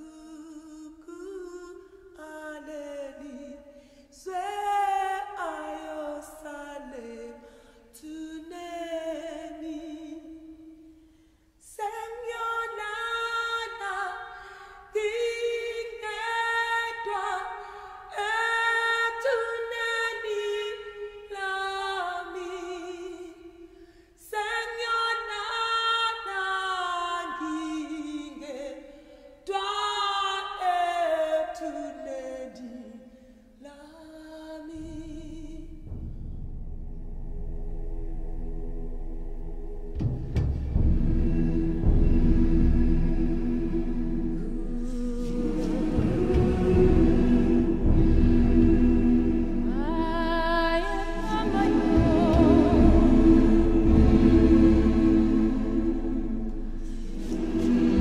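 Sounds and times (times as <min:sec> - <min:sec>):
voices singing a cappella: 0:00.0 - 0:11.0, 0:11.6 - 0:35.8, 0:40.7 - 0:58.0.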